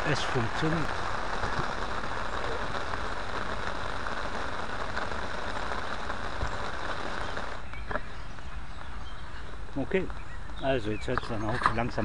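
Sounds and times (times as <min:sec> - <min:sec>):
light rain on an umbrella: 0:00.0 - 0:12.0
raindrops ticking: 0:00.0 - 0:12.0.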